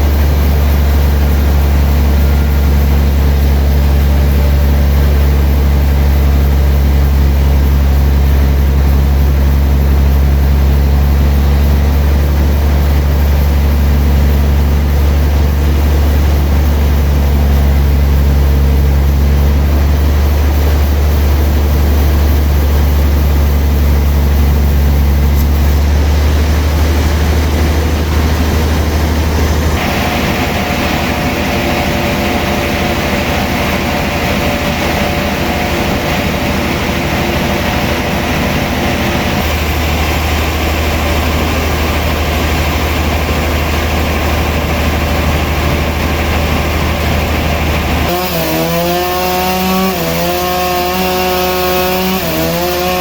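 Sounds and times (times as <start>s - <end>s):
sawmill engine droning: 0.0s - 53.0s.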